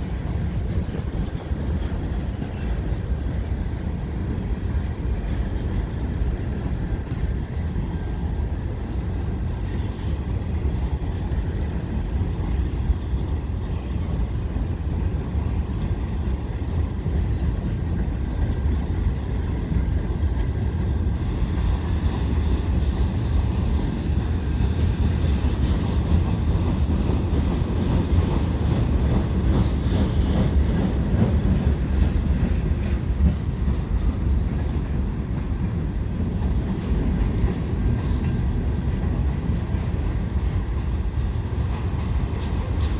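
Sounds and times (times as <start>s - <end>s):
train cars rumbling over bridge: 0.0s - 42.9s.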